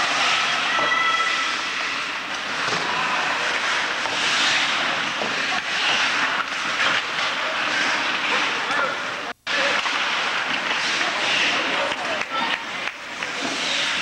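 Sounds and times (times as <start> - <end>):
skate blades hissing on ice: 0.0 - 8.6, 9.7 - 12.0, 12.6 - 14.0
hockey sticks and puck clacking: 1.8 - 8.9, 9.5 - 14.0.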